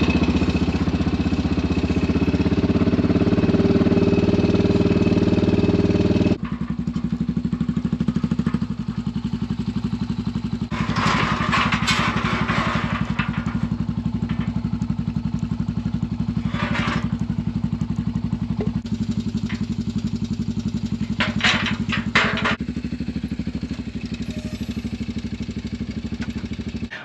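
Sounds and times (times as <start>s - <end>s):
vehicle engine idling: 0.0s - 27.0s
metal gate clanking: 3.6s - 26.9s.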